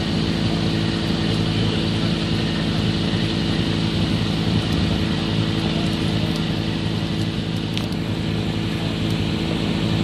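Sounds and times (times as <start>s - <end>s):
drone propellers humming: 0.0s - 10.0s.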